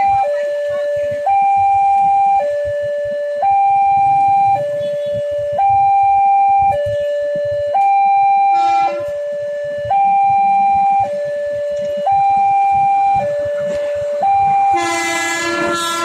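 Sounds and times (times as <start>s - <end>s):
level crossing two-tone alarm: 0.0s - 16.0s
low traffic rumble: 0.0s - 16.0s.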